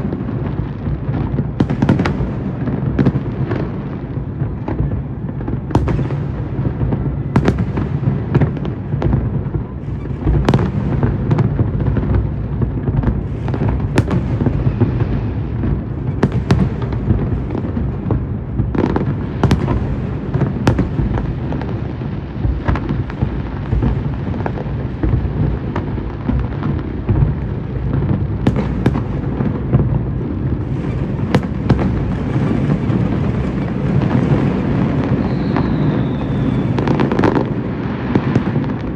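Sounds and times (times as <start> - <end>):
fireworks rumble: 0.0 - 38.9
sharp firework bangs: 0.0 - 38.9.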